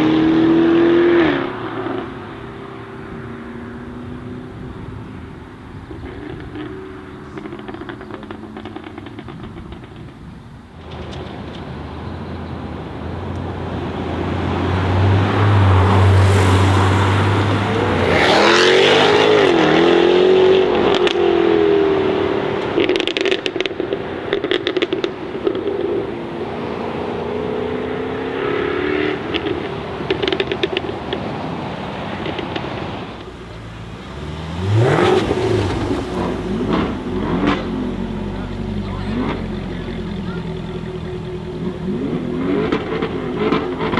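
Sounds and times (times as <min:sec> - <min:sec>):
car engine accelerating hard: 0:00.0 - 0:43.9
exhaust crackles and pops: 0:00.0 - 0:43.9.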